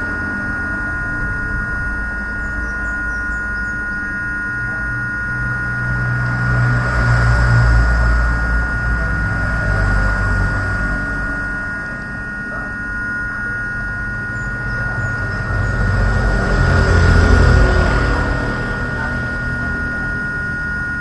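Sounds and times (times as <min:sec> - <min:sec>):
high whine: 0:00.0 - 0:21.0
steady low hum: 0:00.0 - 0:21.0.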